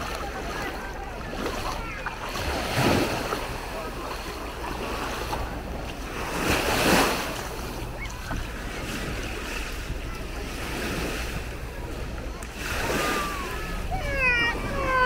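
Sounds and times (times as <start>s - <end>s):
small waves washing on sand: 0.0s - 15.0s.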